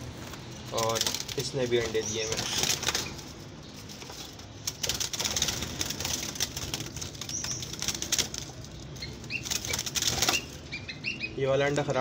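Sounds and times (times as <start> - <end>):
doves flapping wings: 0.0 - 10.7
wire cage rattling: 0.2 - 10.7.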